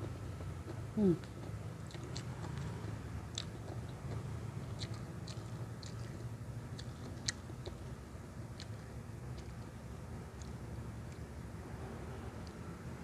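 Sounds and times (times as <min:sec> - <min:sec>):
person chewing crunchy food: 0:00.0 - 0:11.3
low steady hum: 0:00.0 - 0:13.0.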